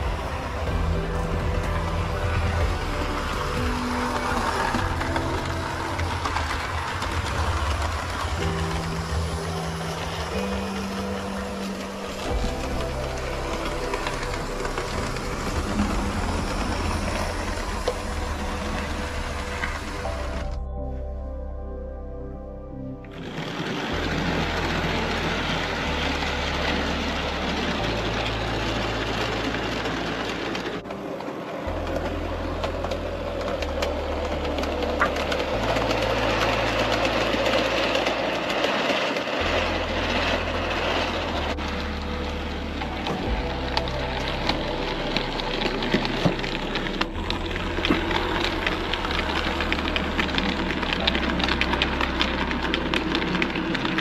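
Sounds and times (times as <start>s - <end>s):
model train rolling rumble: 0.0s - 20.7s, 23.0s - 54.0s
wheels clicking over rail joints: 0.0s - 20.7s, 23.0s - 54.0s.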